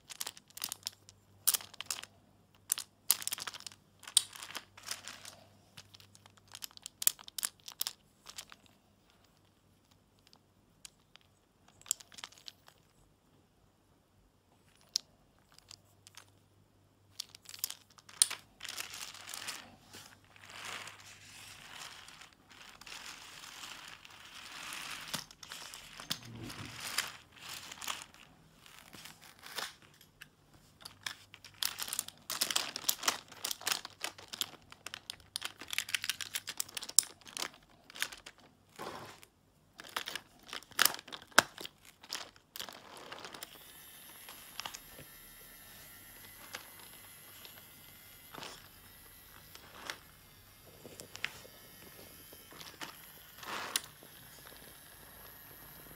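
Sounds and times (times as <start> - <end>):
crinkling and crackling: 0.0 - 13.4, 14.5 - 55.9.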